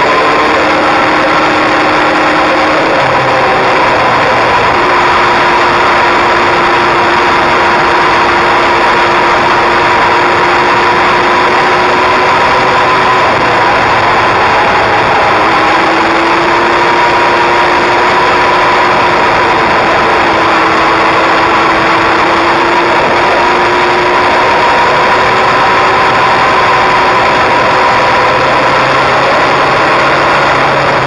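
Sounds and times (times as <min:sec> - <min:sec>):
wind and road rush: 0:00.0 - 0:31.0.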